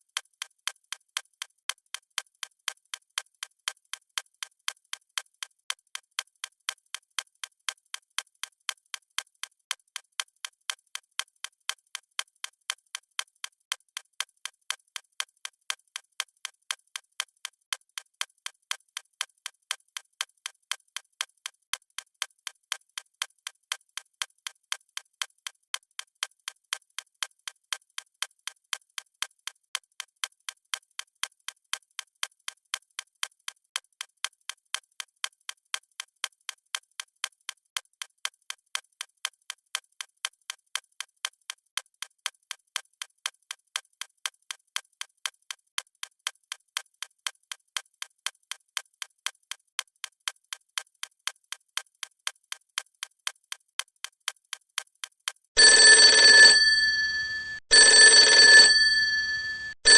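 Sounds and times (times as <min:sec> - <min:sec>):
watch ticking: 0:00.0 - 0:59.9.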